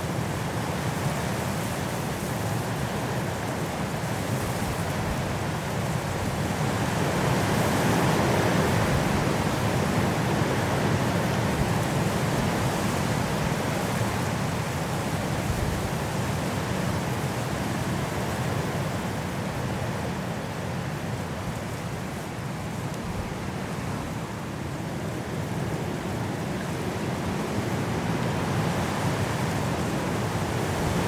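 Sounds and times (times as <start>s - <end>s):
strong wind through trees: 0.0s - 31.0s.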